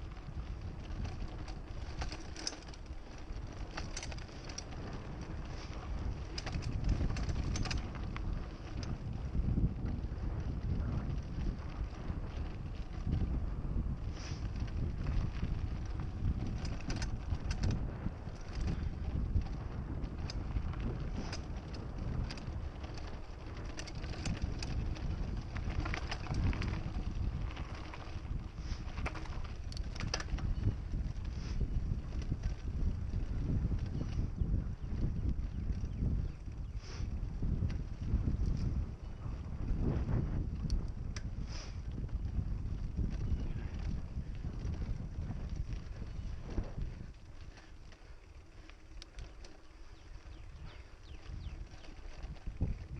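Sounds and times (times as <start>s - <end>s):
tyres rolling on dirt: 0.0s - 33.9s, 42.6s - 52.9s
bike clicks and rattles: 0.0s - 52.9s
wind buffeting microphone: 0.0s - 52.9s.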